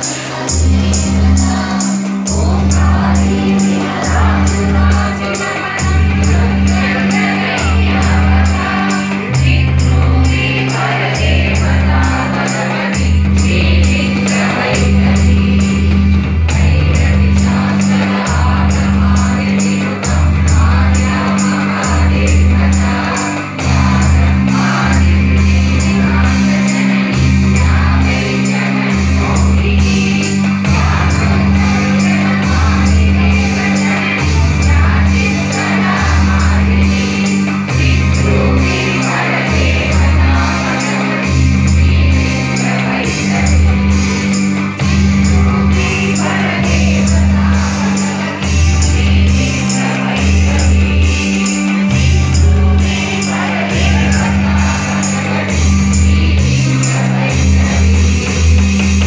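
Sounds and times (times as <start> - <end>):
women singing together: 0.0 - 58.6
steady percussion beat: 0.0 - 59.0
deep held bass notes: 2.3 - 59.0.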